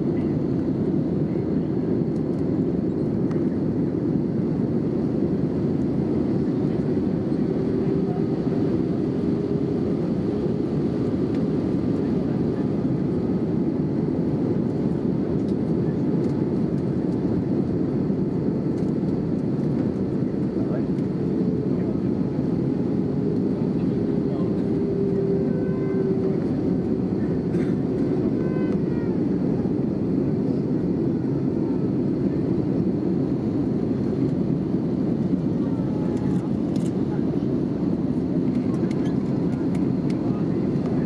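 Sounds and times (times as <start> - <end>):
airplane cabin engine and airflow rush: 0.0 - 41.0.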